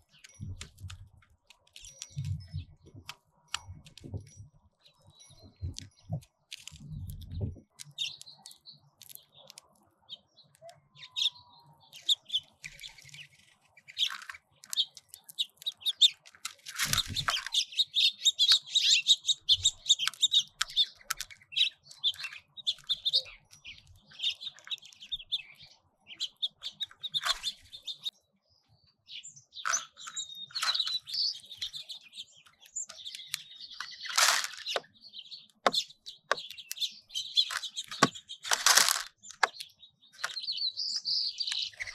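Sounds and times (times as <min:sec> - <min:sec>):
finches chirping: 0:00.0 - 0:41.9.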